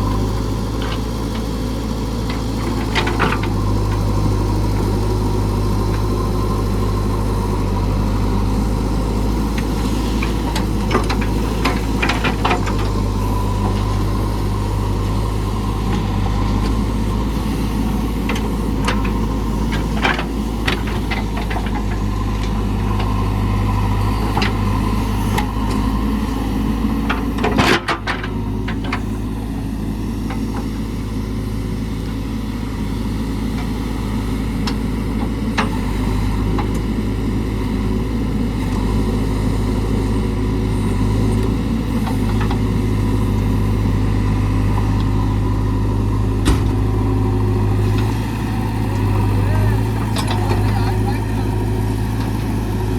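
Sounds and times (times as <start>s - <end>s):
backhoe diesel engine running: 0.0s - 52.9s.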